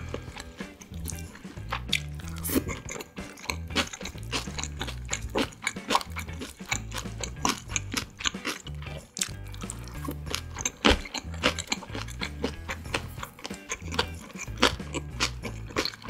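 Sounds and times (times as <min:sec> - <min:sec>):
crisp crunching and chewing: 0:00.0 - 0:16.0.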